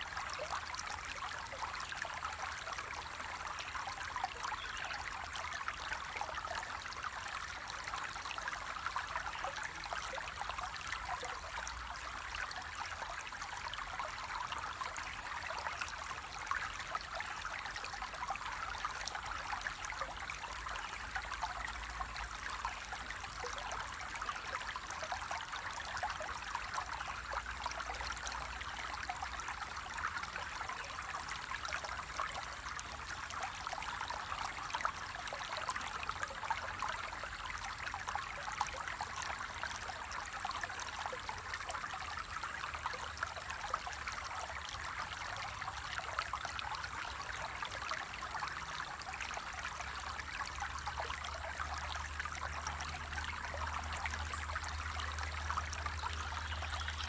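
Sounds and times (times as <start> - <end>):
water babbling and splashing: 0.0 - 57.0.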